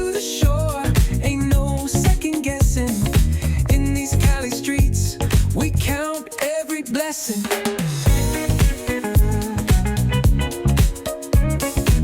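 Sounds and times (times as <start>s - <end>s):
instrumental funk music: 0.0s - 12.0s.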